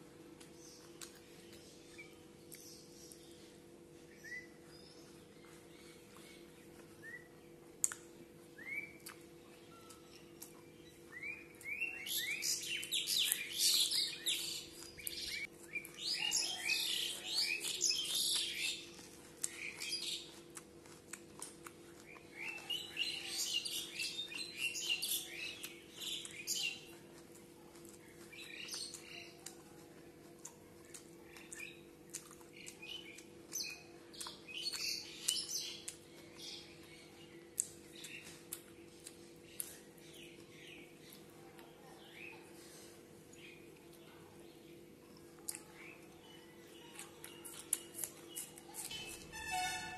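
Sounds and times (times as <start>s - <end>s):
faint steady hum: 0.0s - 49.9s
small birds chirping: 0.0s - 49.9s.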